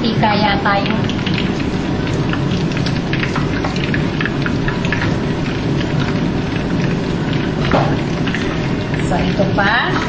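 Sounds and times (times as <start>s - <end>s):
broth bubbling at a boil: 0.0s - 10.0s.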